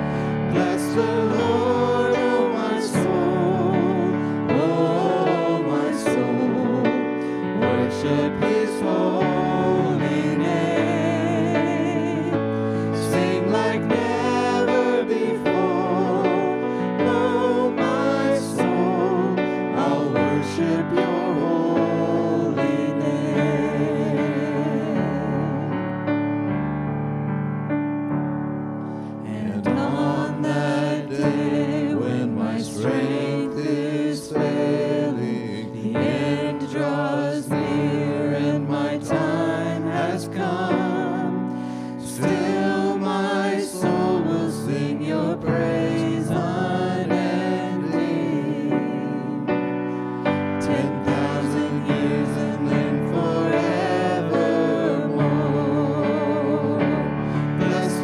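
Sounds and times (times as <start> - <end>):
people singing: 0.0 - 26.0, 28.9 - 58.0
sustained keyboard chords: 0.0 - 58.0.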